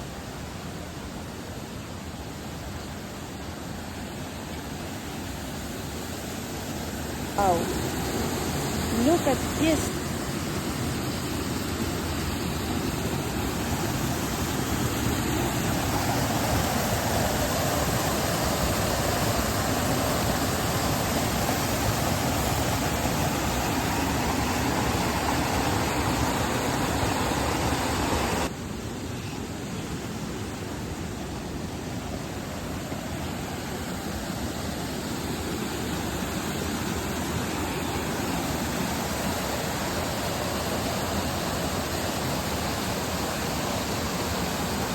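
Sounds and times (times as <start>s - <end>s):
waterfall rushing: 0.0s - 28.6s, 30.1s - 44.9s.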